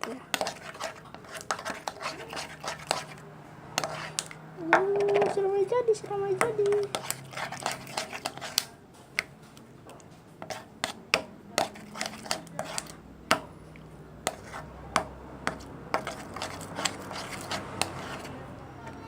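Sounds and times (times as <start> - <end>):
stirrer tapping against container: 0.0 - 3.2, 3.8 - 5.4, 6.4 - 9.3, 9.9 - 13.5, 14.2 - 18.3.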